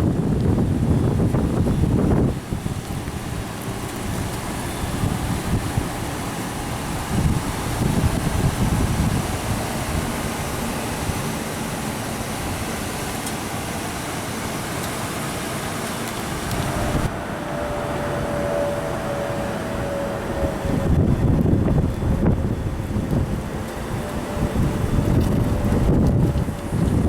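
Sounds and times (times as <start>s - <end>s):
wind on microphone: 0.0s - 13.2s, 16.2s - 27.0s
steady whine: 0.0s - 27.0s
truck engine rumbling: 0.0s - 27.0s.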